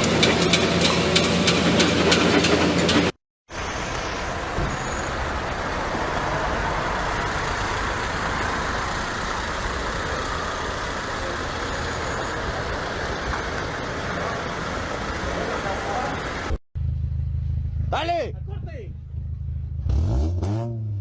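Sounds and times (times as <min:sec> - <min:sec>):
motor vehicle engine and road noise: 0:00.0 - 0:21.0.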